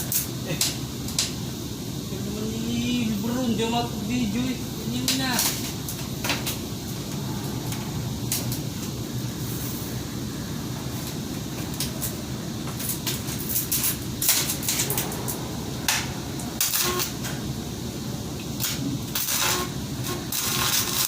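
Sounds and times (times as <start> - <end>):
crackling welding arc: 0.0 - 21.0
steady low hum: 0.0 - 21.0.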